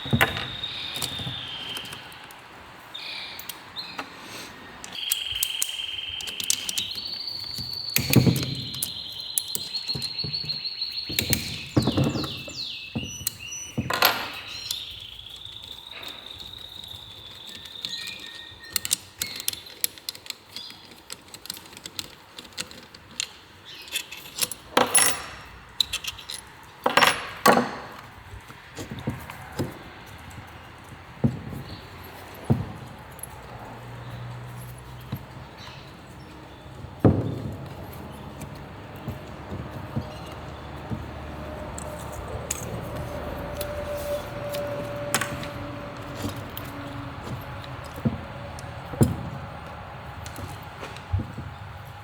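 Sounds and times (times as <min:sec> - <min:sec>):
metal tools clinking: 0:00.0 - 0:02.5, 0:04.8 - 0:52.0.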